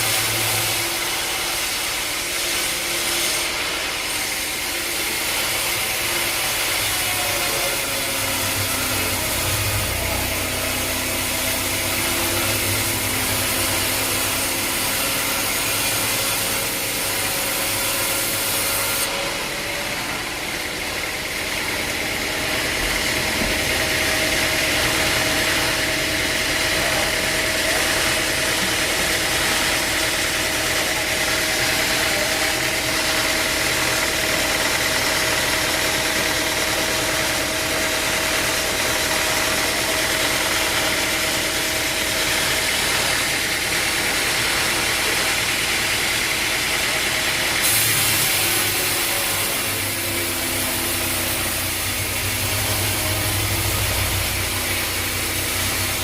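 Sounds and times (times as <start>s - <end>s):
high machine whine: 0.0s - 56.0s
sawmill machinery humming: 0.0s - 56.0s.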